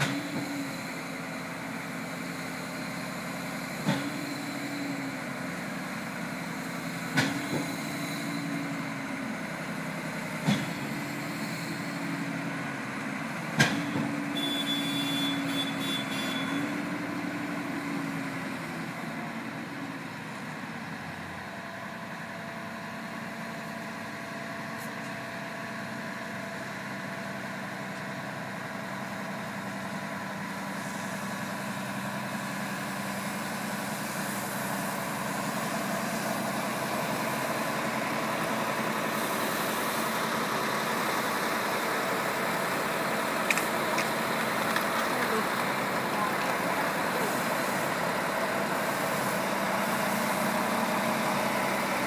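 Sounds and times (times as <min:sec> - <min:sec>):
truck diesel engine running: 0:00.0 - 0:52.0.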